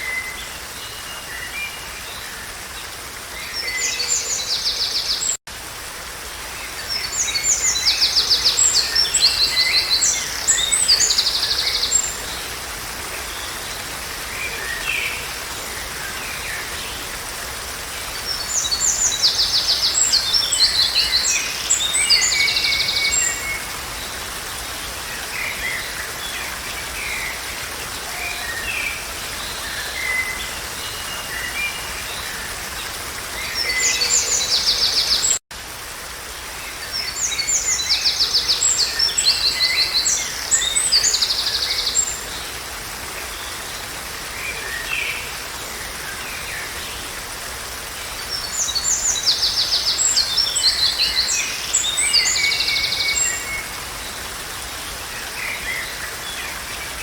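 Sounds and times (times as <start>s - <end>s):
rushing water hiss: 0.0s - 57.0s.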